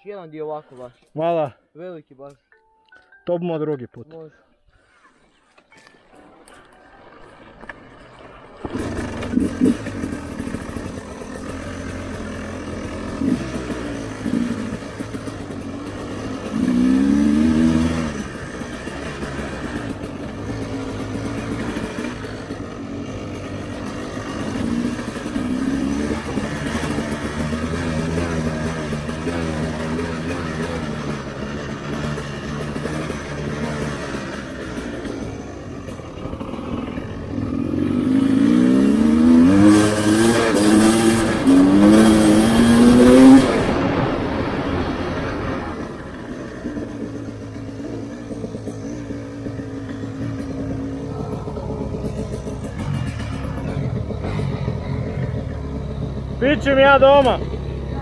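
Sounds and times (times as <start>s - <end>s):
dirt bike engine revving: 8.6s - 58.0s.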